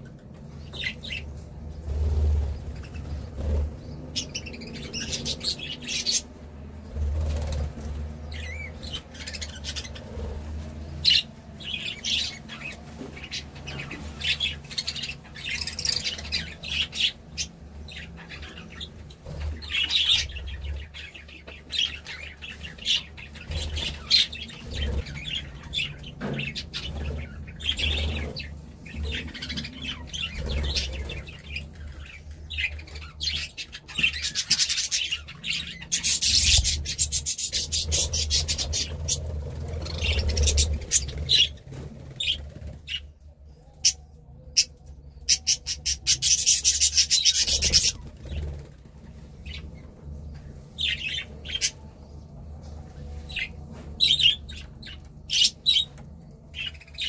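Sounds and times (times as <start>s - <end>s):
budgerigars chirping and warbling: 0.0s - 57.0s.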